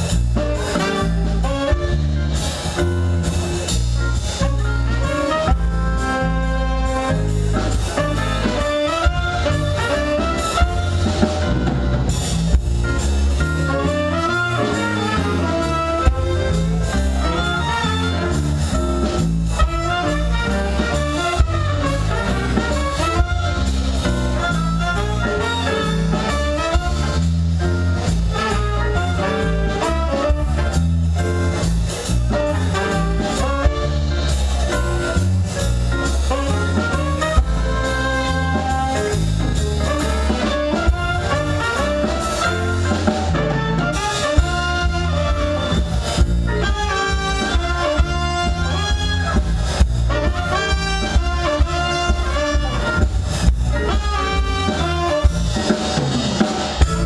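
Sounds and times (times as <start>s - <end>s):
bass line: 0.0s - 57.0s
drums with cymbals: 0.0s - 57.0s
jazz ensemble playing: 0.0s - 57.0s.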